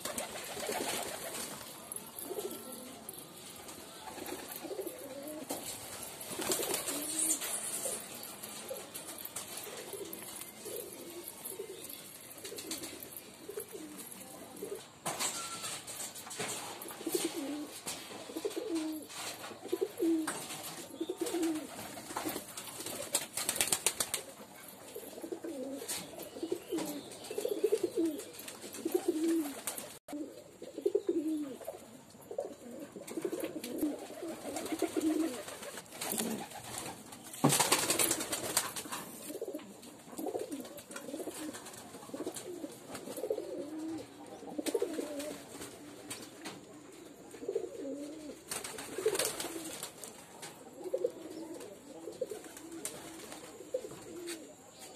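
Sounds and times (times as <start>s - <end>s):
pigeons cooing: 0.0s - 15.0s, 16.8s - 22.4s, 23.5s - 37.0s, 37.9s - 45.9s, 47.2s - 49.9s, 50.6s - 54.7s.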